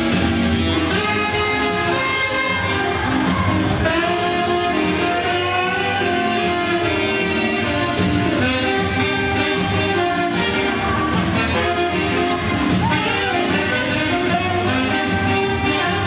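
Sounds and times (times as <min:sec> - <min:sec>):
dance music with guitar: 0:00.0 - 0:16.0.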